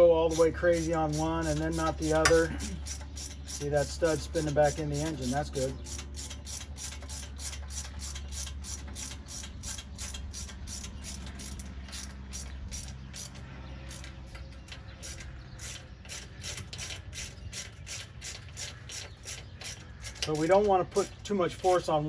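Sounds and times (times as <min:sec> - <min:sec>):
ratchet wrench clicking: 0:00.3 - 0:20.7.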